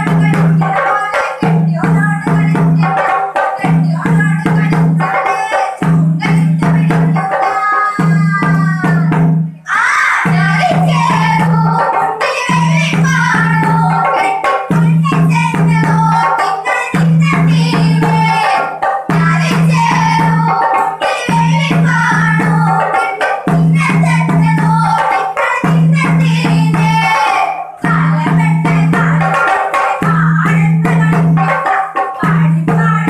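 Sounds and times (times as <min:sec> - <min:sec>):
children singing into a microphone: 0:00.0 - 0:33.0
drum beat: 0:00.0 - 0:33.0
steady percussion beat: 0:00.0 - 0:33.0.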